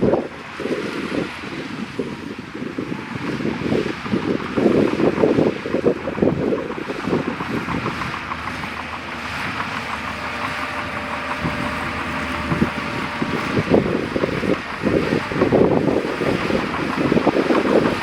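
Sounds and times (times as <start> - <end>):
heavy machinery diesel engine: 0.0 - 18.0
wind buffeting microphone: 0.0 - 18.0.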